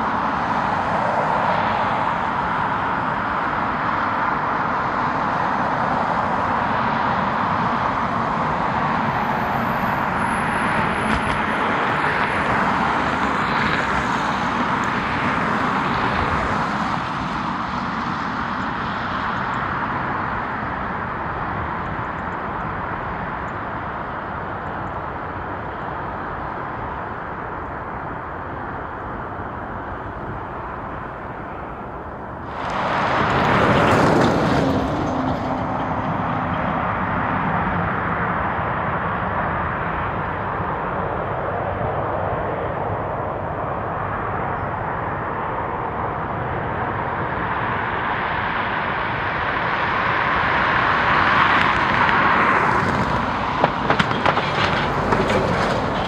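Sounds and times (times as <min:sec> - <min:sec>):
jet engine roar: 0:00.0 - 0:56.0.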